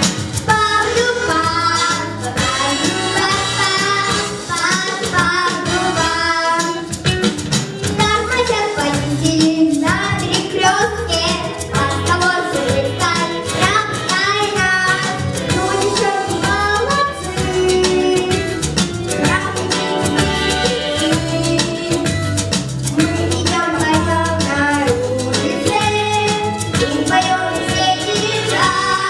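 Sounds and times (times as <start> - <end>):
child singing: 0.0 - 7.0, 7.9 - 22.2, 22.9 - 29.0
instrumental backing track: 0.0 - 29.0.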